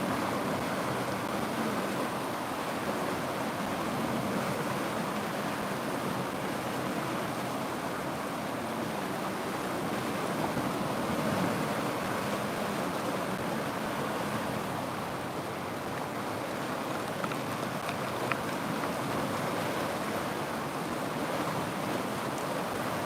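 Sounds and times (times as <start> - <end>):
river water flowing: 0.0 - 23.0.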